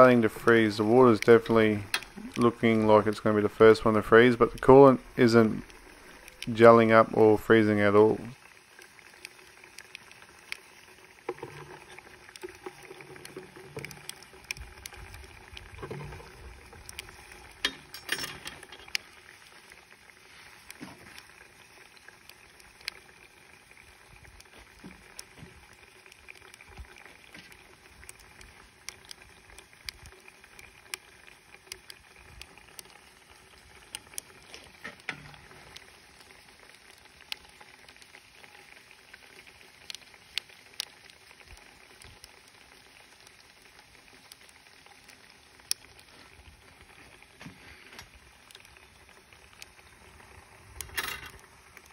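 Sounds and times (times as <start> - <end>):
liquid nitrogen sizzling and crackling: 0.0 - 51.9.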